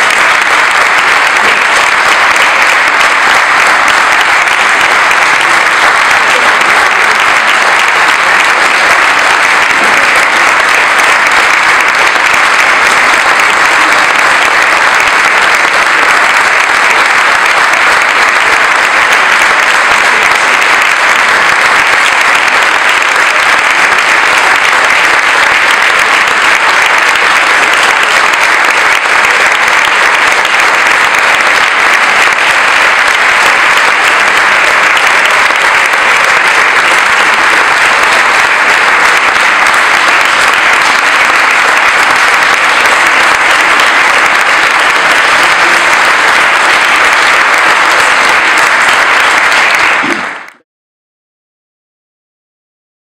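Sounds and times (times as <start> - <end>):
audience applauding: 0.0 - 50.6.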